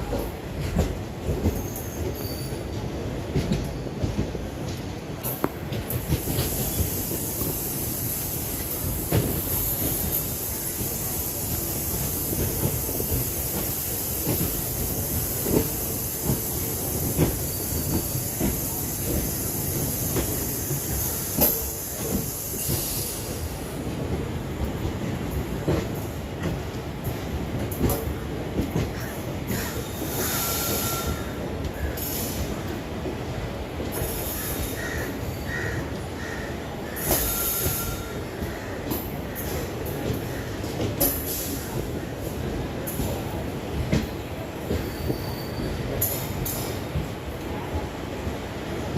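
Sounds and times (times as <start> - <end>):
train rumble and hiss: 0.0 - 48.9.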